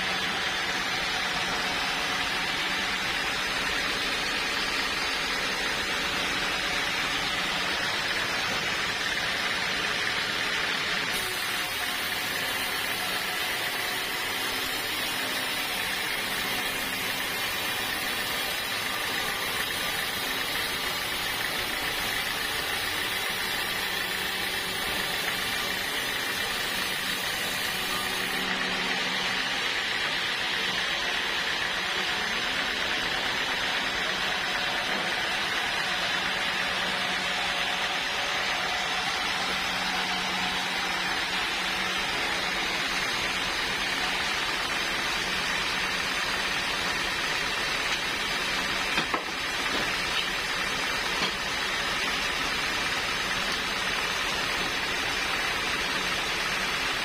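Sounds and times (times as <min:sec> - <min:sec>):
sawmill machinery whirring: 0:00.0 - 0:57.0.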